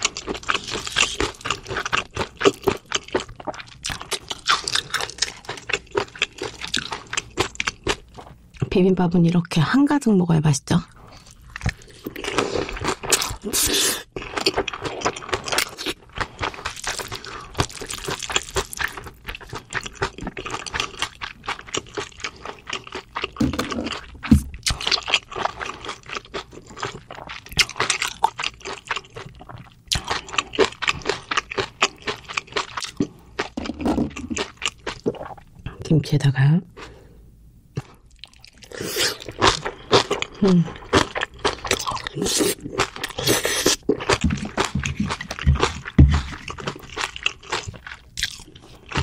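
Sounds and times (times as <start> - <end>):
wet chewing and mouth smacking: 0.0 - 8.6, 11.1 - 35.5, 37.7 - 49.0.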